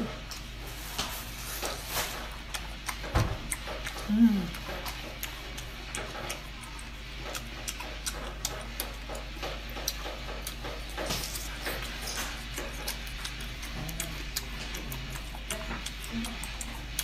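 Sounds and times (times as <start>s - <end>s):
chewing with wet mouth clicks: 0.2s - 0.6s, 1.6s - 17.0s.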